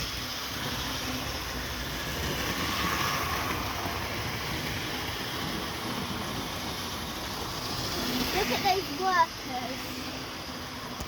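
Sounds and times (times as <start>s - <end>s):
model train motors whirring: 0.0s - 11.0s.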